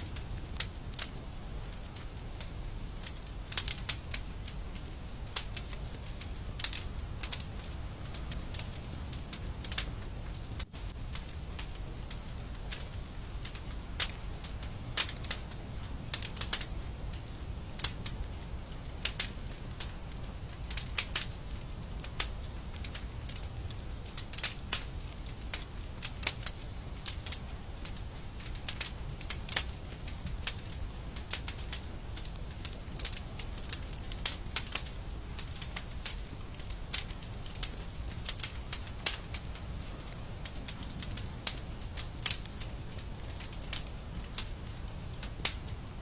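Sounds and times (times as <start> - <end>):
low rumble of burning: 0.0 - 46.0
wood fire popping and snapping: 0.0 - 46.0.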